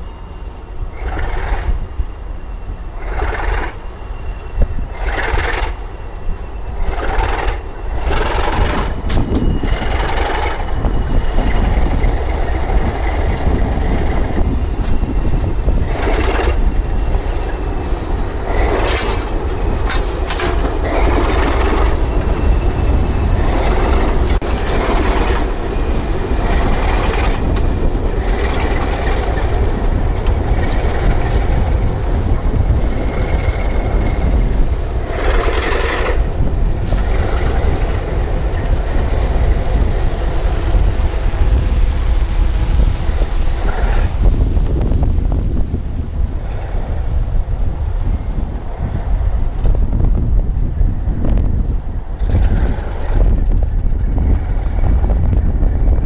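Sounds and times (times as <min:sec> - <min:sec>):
diesel train rumbling past: 0:00.0 - 0:56.0.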